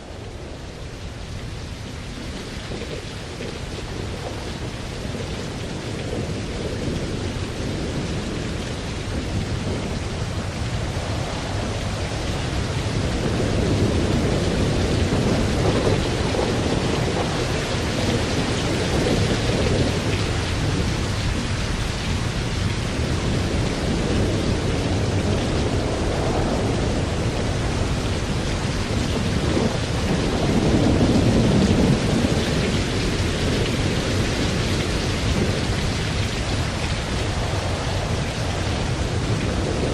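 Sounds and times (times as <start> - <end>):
rolling thunder: 0.0 - 39.9
steady rain: 0.0 - 39.9.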